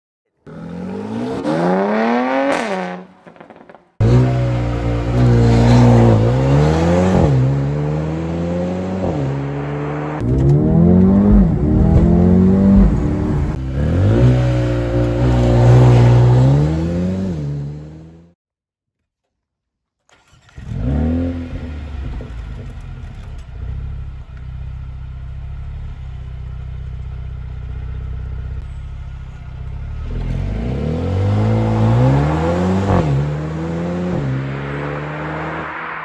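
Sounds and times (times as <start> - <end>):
car engine accelerating hard: 0.5 - 18.3, 20.4 - 24.2, 28.5 - 36.0.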